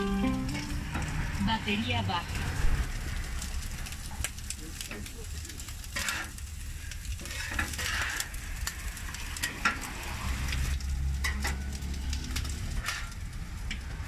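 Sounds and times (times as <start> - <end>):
meat sizzling on a griddle: 0.0 - 14.0.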